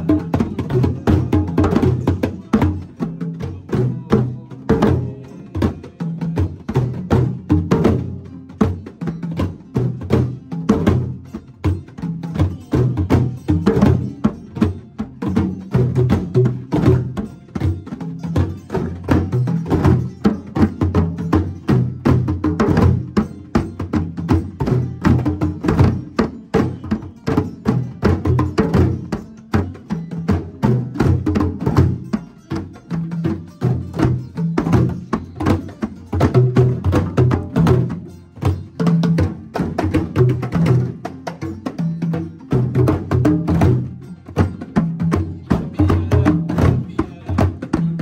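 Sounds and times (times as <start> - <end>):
djembe hand drums rhythm: 0.0 - 48.0.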